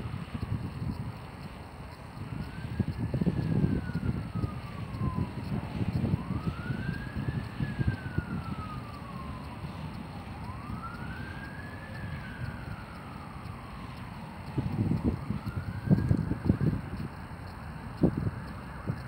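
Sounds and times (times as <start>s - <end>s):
wind buffeting microphone: 0.0s - 19.0s
siren wailing: 2.2s - 19.0s.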